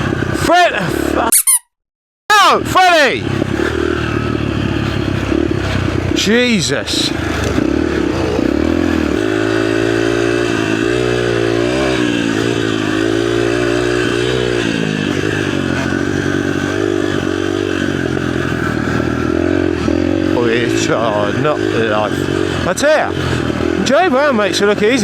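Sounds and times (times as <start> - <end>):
dirt bike engine revving: 3.0 - 25.0.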